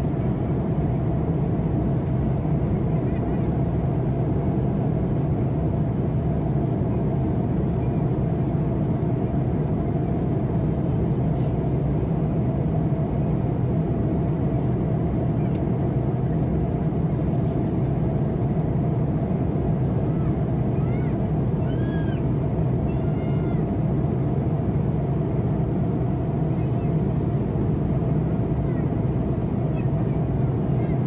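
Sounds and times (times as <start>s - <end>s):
airliner cabin airflow and engine noise: 0.0s - 31.0s.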